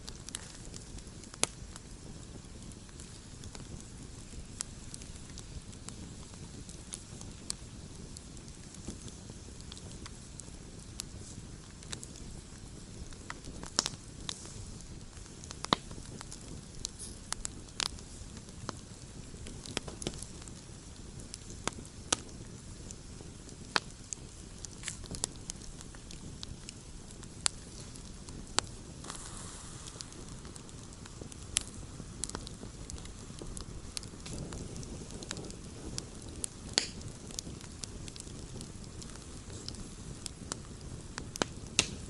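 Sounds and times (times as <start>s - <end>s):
low steady rumble: 0.0s - 41.5s
campfire crackling and popping: 0.0s - 42.0s.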